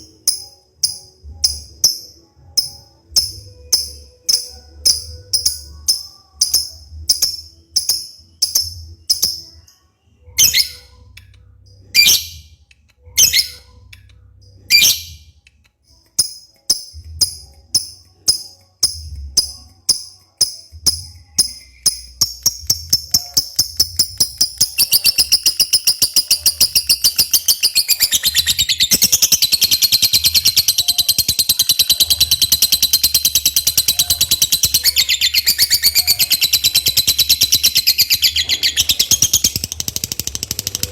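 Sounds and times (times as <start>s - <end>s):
lovebird chirping and trilling: 0.0s - 9.7s, 10.3s - 11.1s, 11.8s - 13.8s, 14.6s - 15.3s, 16.2s - 40.9s.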